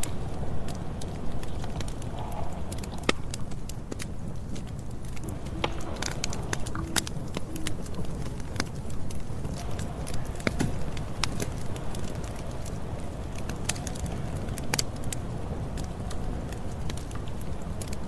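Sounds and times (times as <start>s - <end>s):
campfire rumble: 0.0s - 18.0s
wood crackling and popping: 0.0s - 18.0s.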